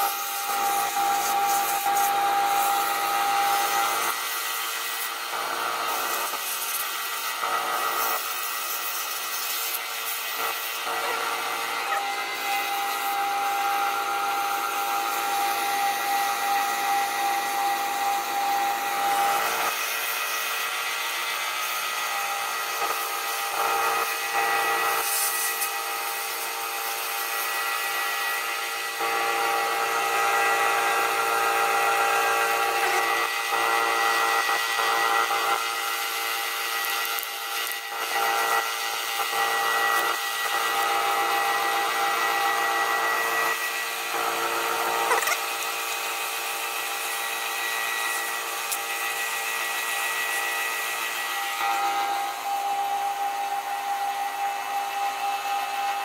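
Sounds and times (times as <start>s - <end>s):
wood lathe motor: 0.0s - 56.0s.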